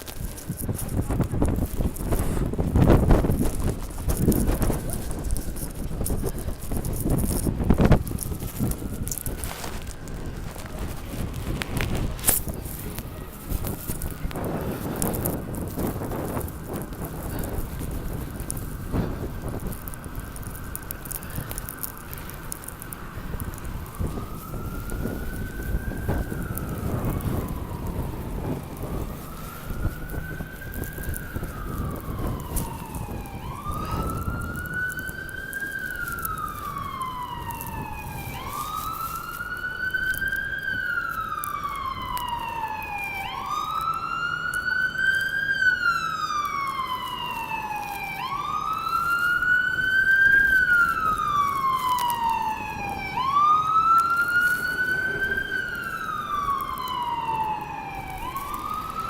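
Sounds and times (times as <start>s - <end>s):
emergency siren wailing: 0.0s - 59.0s
street noise: 0.0s - 59.0s.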